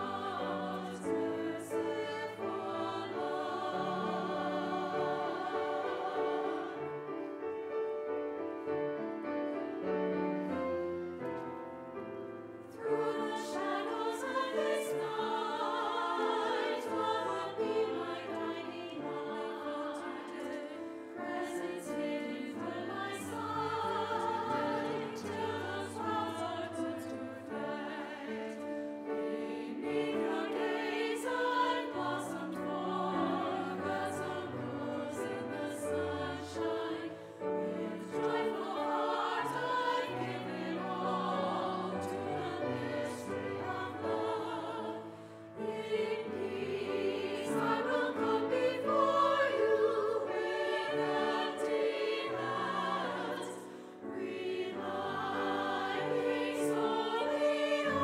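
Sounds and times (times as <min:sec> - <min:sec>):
women's choir singing: 0:00.0 - 0:58.0.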